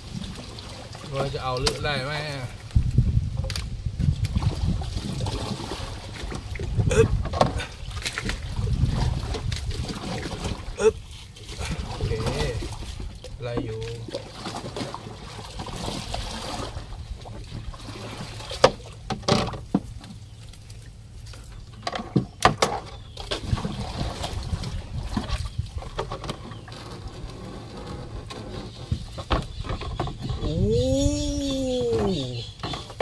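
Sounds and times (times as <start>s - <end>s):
paddle sloshing water: 0.0s - 2.8s, 4.1s - 30.4s.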